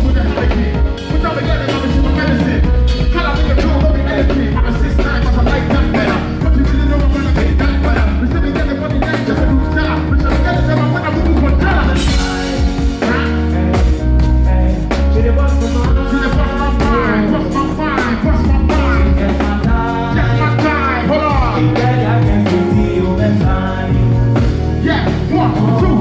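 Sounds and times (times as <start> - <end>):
band playing: 0.0 - 26.0
drum kit: 0.0 - 26.0
heavy bass line: 0.0 - 26.0.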